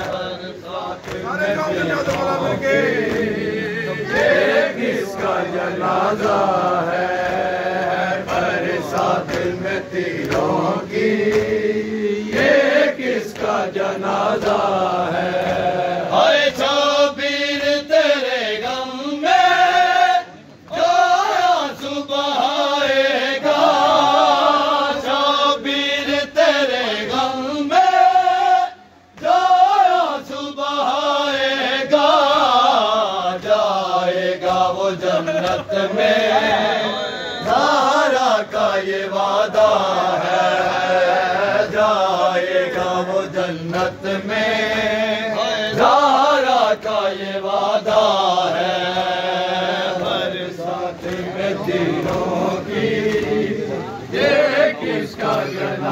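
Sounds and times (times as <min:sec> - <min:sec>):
men chanting a lament in unison: 0:00.0 - 0:55.9.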